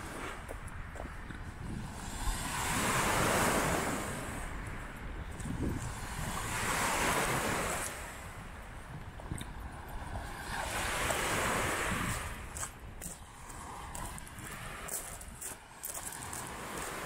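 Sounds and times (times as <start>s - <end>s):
waves breaking on beach: 0.0s - 17.0s
wind rumbling on microphone: 0.0s - 17.0s.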